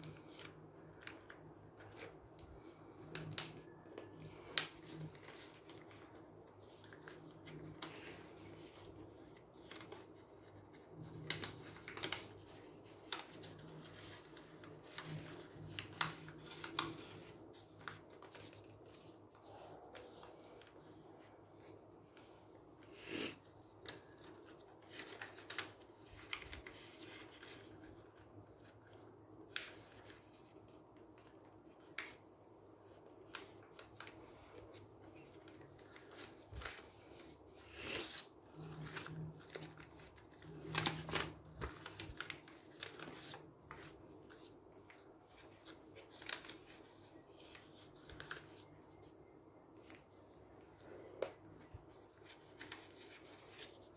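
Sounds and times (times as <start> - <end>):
paper folding and crinkling: 0.0 - 53.9.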